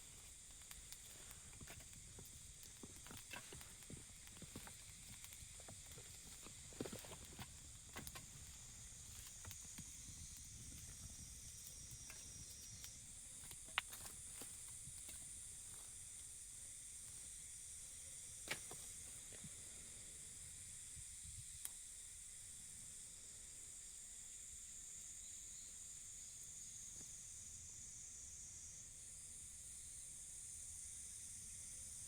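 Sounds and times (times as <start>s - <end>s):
steady high-pitched hiss: 0.0s - 32.0s.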